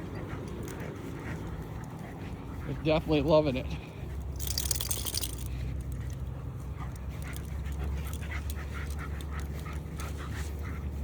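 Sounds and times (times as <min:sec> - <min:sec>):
faint dog movement sounds: 0:00.0 - 0:11.0
rustle: 0:00.0 - 0:11.0.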